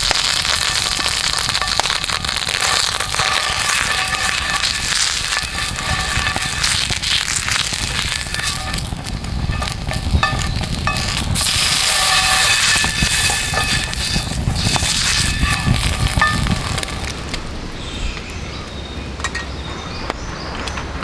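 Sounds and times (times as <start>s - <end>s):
fat sizzling in a frying pan: 0.0s - 17.4s
wood fire crackling: 0.0s - 21.0s.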